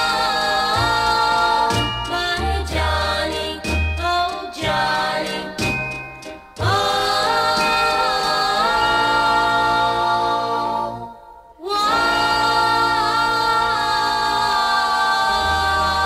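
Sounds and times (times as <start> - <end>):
vocal group singing harmony: 0.0 - 16.0.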